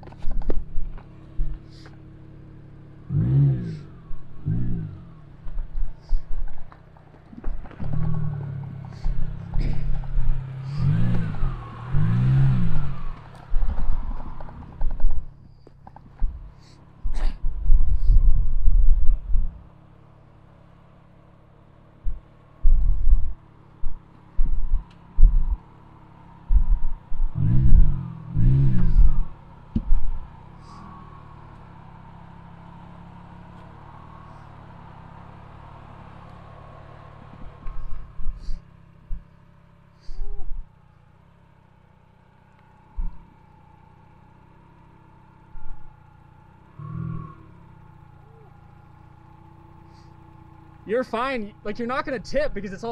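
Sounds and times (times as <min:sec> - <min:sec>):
low rumbling: 0:00.0 - 0:20.4, 0:21.5 - 0:39.4, 0:42.6 - 0:52.9
car engine revving: 0:00.0 - 0:52.9.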